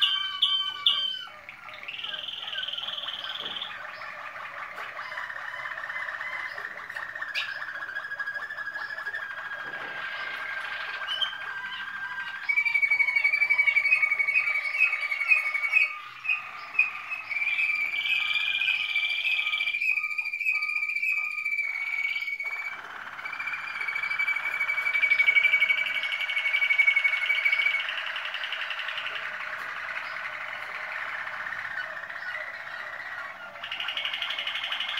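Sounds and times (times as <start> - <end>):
canaries singing with trills: 0.0 - 34.9.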